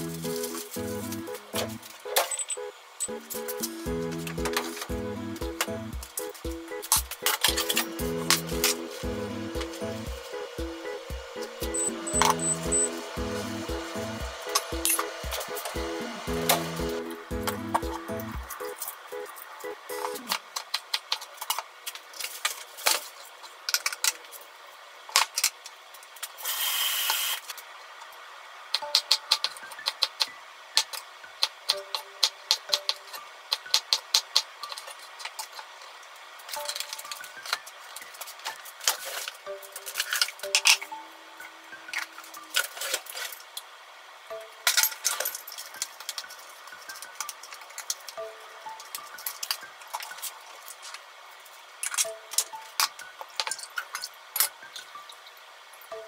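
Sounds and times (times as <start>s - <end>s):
soft background music: 0.0s - 20.4s, 28.6s - 56.0s.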